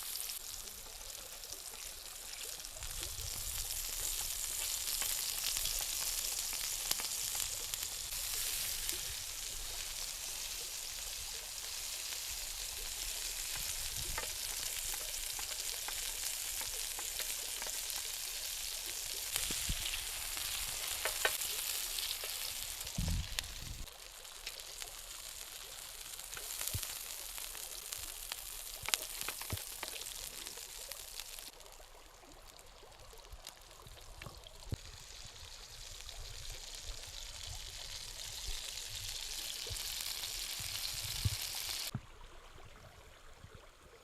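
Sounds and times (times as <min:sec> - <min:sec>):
food frying with sizzle and pops: 0:00.0 - 0:42.0.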